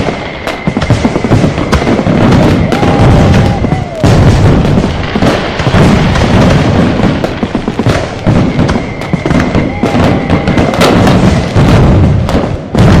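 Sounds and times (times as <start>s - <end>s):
firecracker and fireworks bangs: 0.0s - 13.0s
firework whistle: 0.0s - 13.0s.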